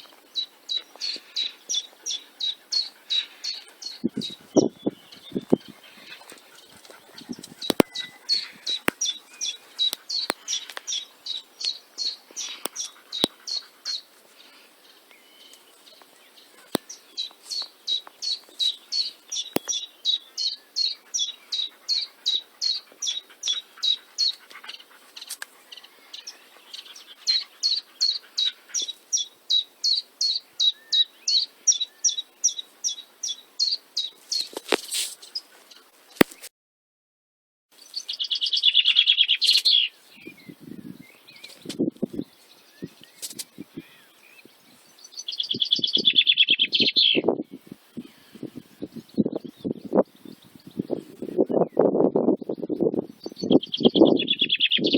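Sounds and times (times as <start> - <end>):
songbird chirping: 0.0 - 36.5, 37.7 - 54.9.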